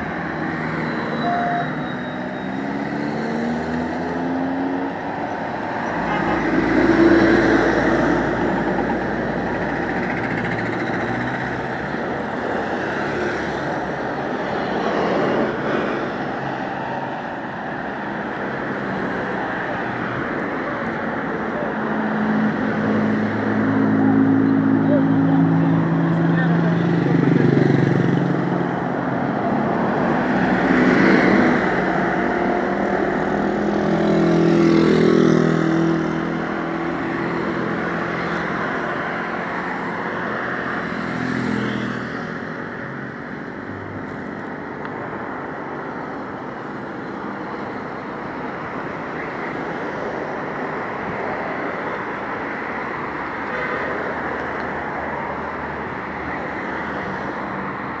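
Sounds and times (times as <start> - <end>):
vehicles passing on road: 0.0 - 58.0.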